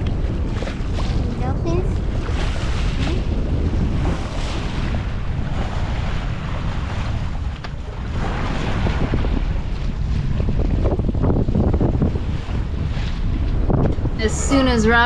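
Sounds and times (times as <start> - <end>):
water washing along hull: 0.0 - 15.0
wind buffeting microphone: 0.0 - 15.0.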